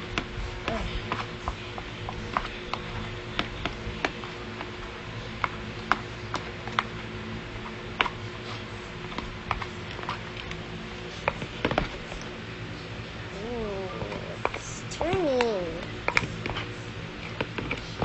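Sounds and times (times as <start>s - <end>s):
spoon stirring slime: 0.0s - 12.3s, 13.6s - 18.0s.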